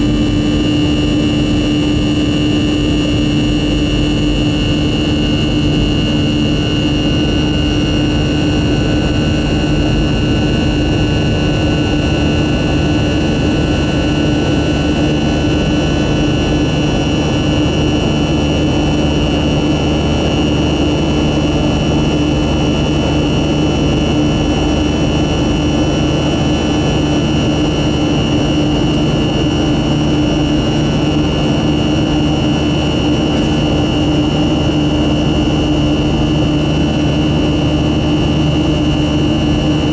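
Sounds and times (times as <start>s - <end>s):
high jet engine whine: 0.0s - 39.9s
jet engine roar: 0.0s - 39.9s.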